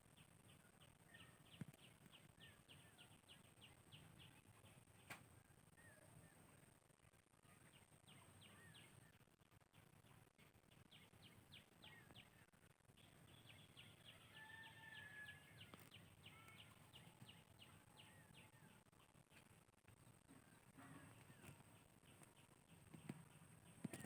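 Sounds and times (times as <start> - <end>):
faint birdsong chirps: 0.0 - 24.0.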